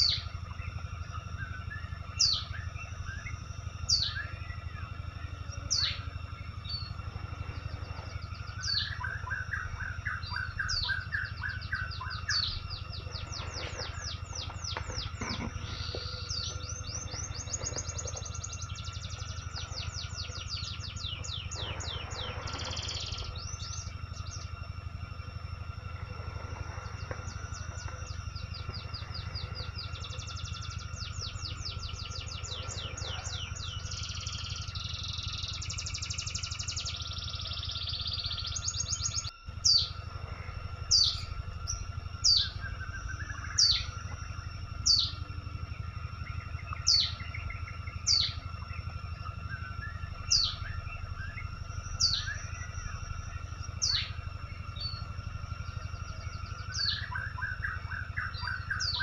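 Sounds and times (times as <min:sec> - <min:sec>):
birds chirping: 0:00.0 - 0:59.0
low rumble: 0:00.0 - 0:59.0.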